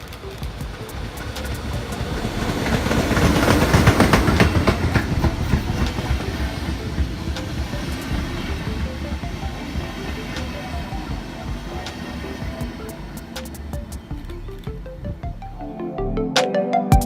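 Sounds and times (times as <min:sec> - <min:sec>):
train wheels clicking over joints: 0:00.0 - 0:14.3.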